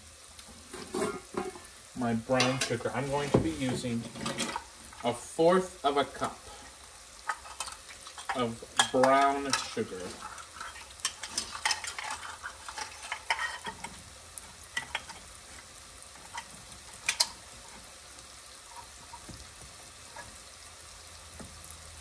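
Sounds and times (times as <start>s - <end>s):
apples sizzling in butter: 0.0s - 22.0s.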